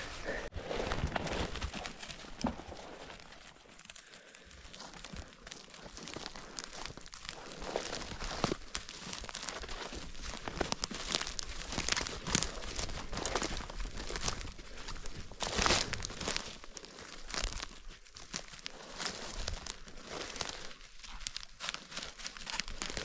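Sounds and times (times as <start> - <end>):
footsteps rustling dry leaves: 0.0 - 23.0.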